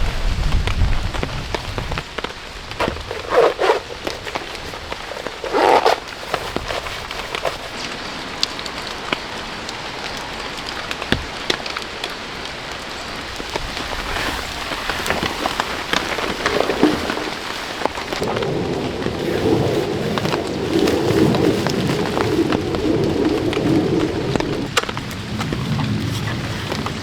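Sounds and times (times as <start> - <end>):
rain falling in forest: 0.0 - 27.0
raindrops ticking close by: 3.8 - 27.0.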